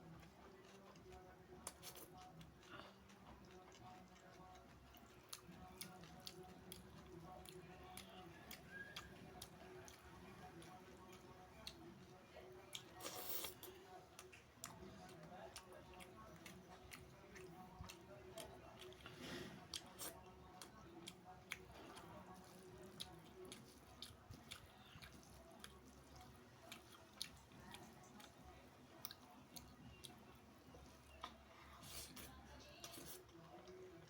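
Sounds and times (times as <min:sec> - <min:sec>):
close-up chewing: 0:00.0 - 0:34.0.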